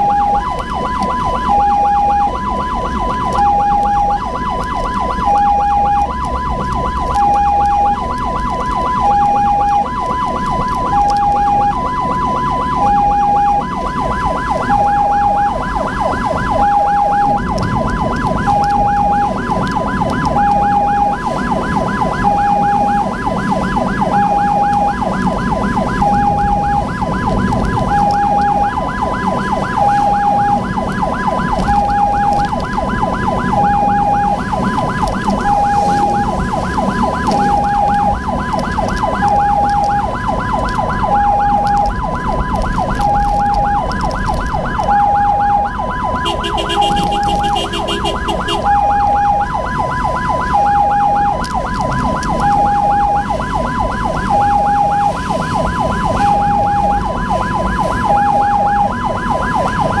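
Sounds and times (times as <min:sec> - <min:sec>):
short extra siren tone: 0:00.0 - 0:59.1
siren yelp: 0:00.0 - 1:00.0
two-tone ambulance siren: 0:00.0 - 1:00.0
vehicle road and engine rumble: 0:00.0 - 1:00.0.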